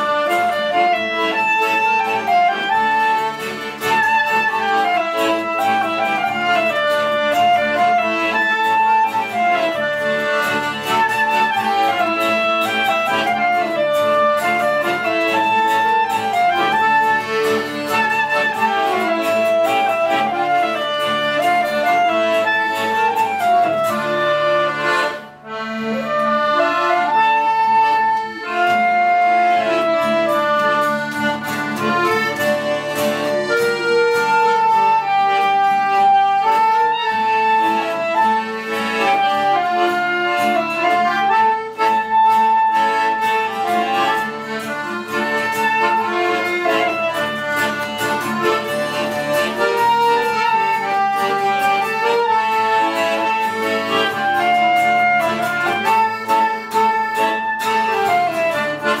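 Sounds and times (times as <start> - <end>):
accordion: 0.0 - 59.0
clarinet: 0.0 - 59.0
strummed acoustic guitar: 0.0 - 59.0.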